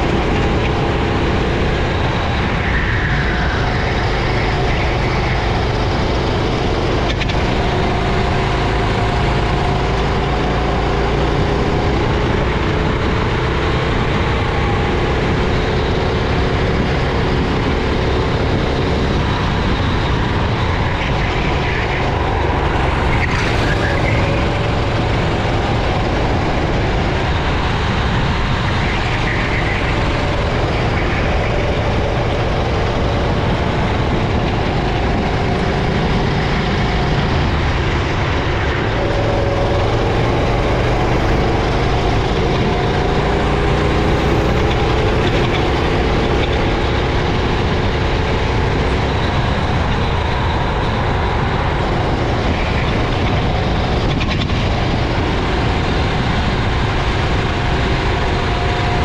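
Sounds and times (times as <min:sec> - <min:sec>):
racing kart engine running: 0:00.0 - 0:59.0.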